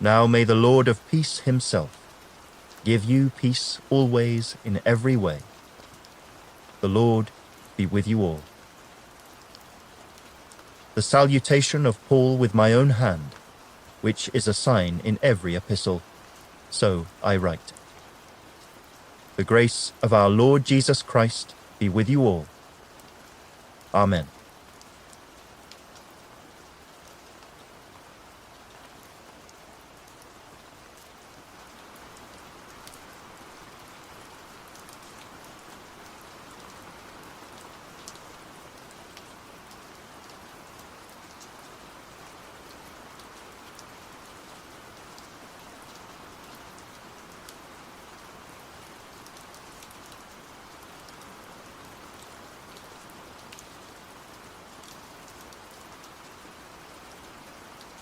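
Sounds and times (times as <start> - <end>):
steady rain falling: 0.0 - 58.0
raindrop ticks: 1.0 - 21.8, 22.4 - 58.0.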